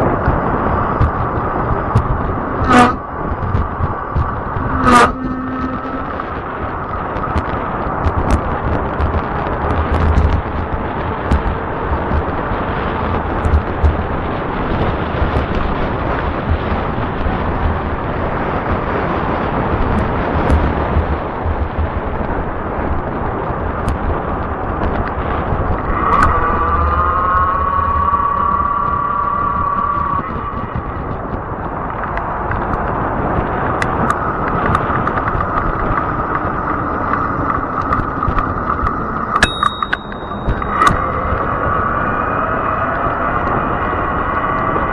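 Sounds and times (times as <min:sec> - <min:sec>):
tyres rolling on asphalt: 0:00.0 - 0:05.2, 0:05.8 - 0:44.9
electric bike motor whine: 0:00.0 - 0:17.2, 0:17.8 - 0:44.9
wind rushing over microphone: 0:00.0 - 0:44.9.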